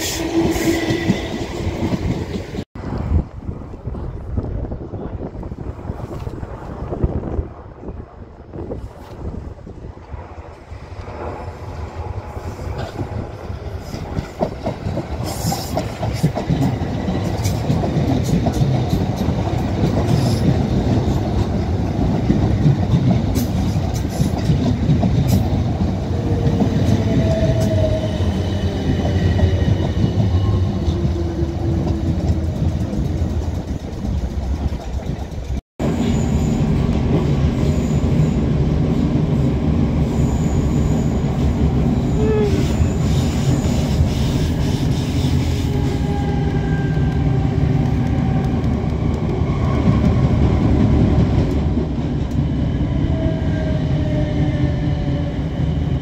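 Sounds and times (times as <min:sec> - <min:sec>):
train running on rails: 0:00.0 - 0:56.0.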